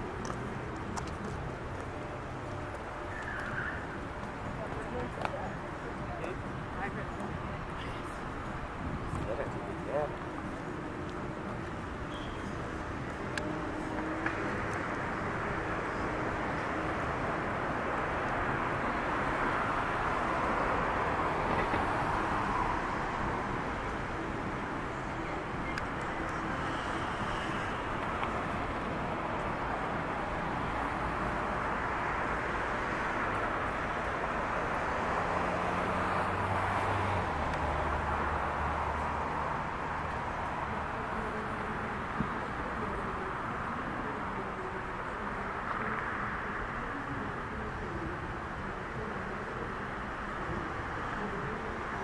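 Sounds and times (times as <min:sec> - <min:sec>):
road traffic: 0:00.0 - 0:52.0
vehicles passing: 0:00.0 - 0:52.0.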